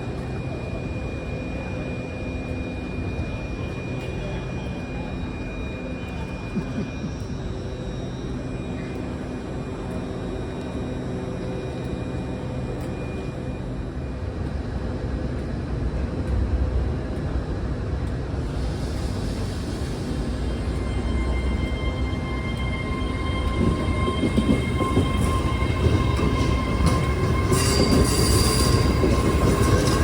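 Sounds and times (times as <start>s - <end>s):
diesel locomotive engines droning: 0.0s - 30.0s.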